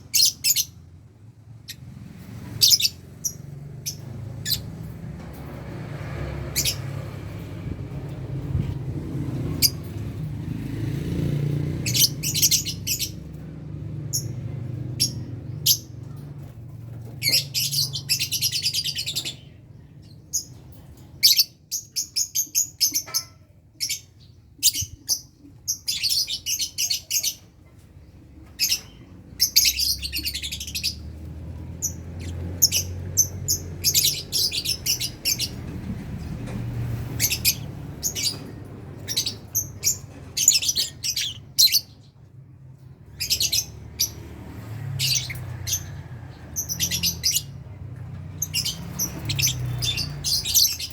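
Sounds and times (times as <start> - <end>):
lovebirds chirping: 0.0 - 0.8, 1.6 - 5.3, 6.4 - 50.9.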